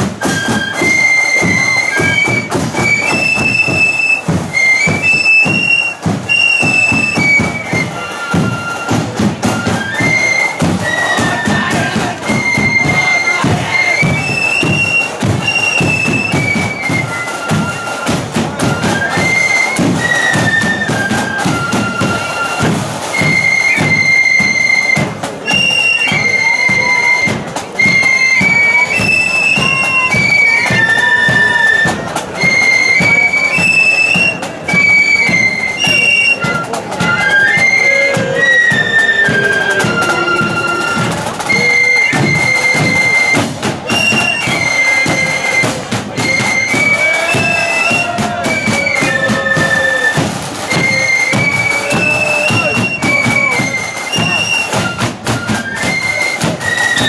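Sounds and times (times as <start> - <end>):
drums beating: 0.0 - 57.0
flute band playing: 0.0 - 57.0.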